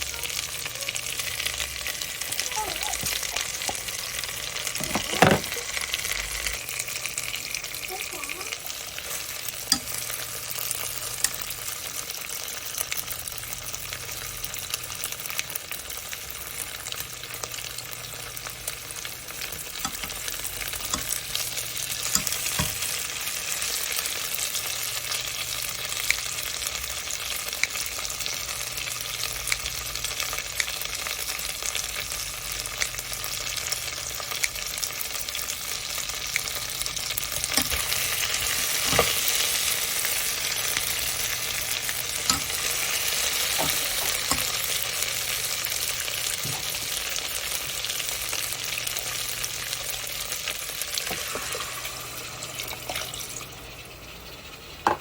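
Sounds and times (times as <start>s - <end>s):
food sizzling in a pot: 0.0s - 55.0s.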